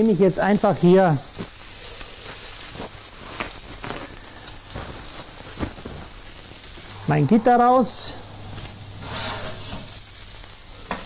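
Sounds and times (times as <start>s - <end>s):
steak sizzling in a frying pan: 0.0s - 11.0s.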